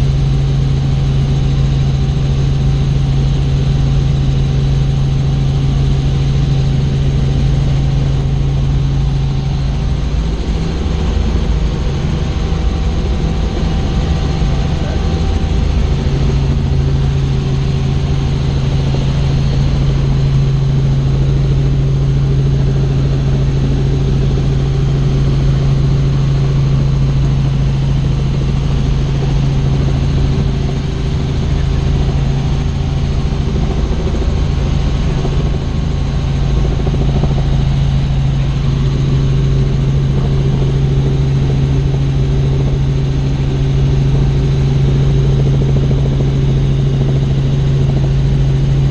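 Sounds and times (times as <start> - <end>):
helicopter engine and rotors: 0.0 - 48.9.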